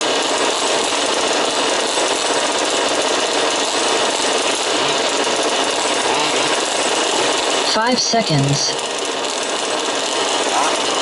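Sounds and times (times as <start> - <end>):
small two-stroke engines buzzing: 0.0 - 11.0.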